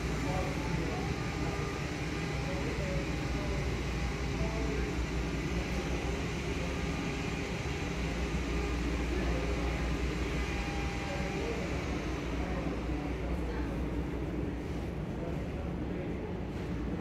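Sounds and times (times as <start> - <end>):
faint indistinct voices: 0.0 - 17.0.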